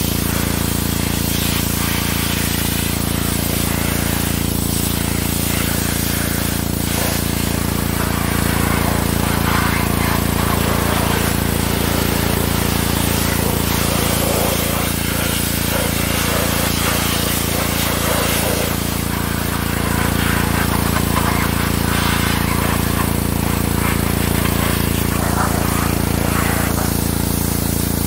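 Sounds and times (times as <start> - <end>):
pressure washer drone: 0.0 - 28.0
water jet spraying hiss: 0.0 - 28.0.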